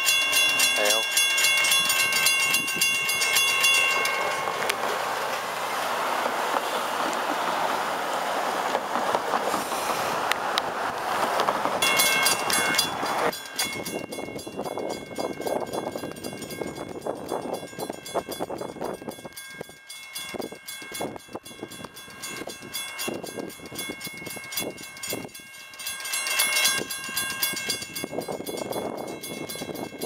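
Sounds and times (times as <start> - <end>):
railroad crossing bell ringing: 0.0 - 6.9, 11.8 - 30.0.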